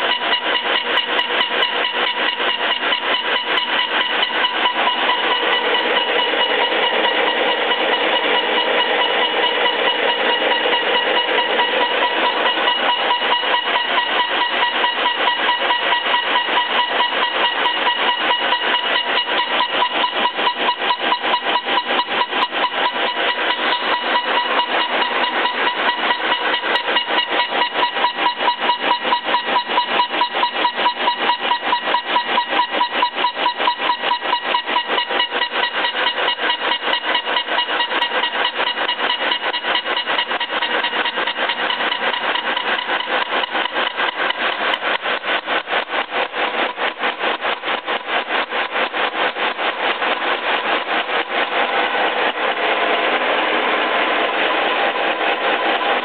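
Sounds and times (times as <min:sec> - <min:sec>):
steady ringing tone: 0:00.0 - 0:56.0.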